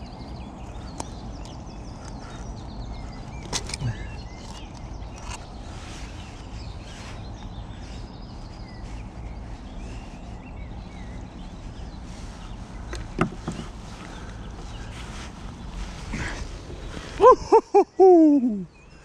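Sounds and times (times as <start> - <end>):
bird chirps: 0.0 - 19.0
steady low rumble: 0.0 - 19.0.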